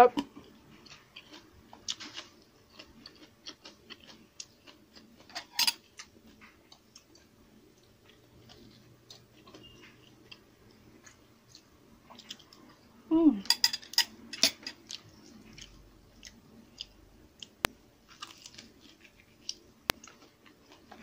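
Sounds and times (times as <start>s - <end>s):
chewing: 0.3s - 12.8s, 14.7s - 21.0s.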